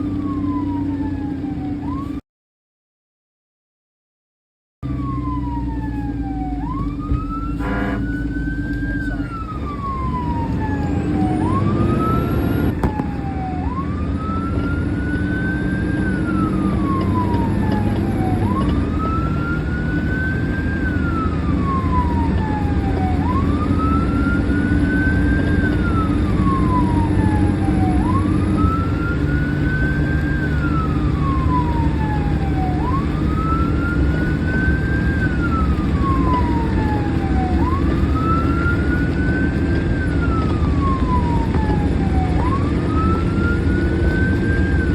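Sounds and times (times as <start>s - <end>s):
fire engine siren wailing: 0.0s - 2.2s, 4.8s - 44.9s
road noise: 0.0s - 2.2s, 4.8s - 44.9s
truck engine drone: 0.0s - 2.2s, 4.8s - 44.9s.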